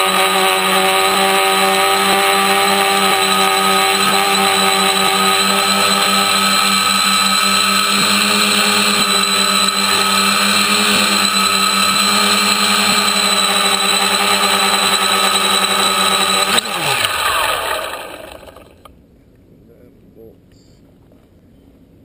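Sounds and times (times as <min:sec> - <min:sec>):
drone motors buzzing whine: 0:00.0 - 0:18.9.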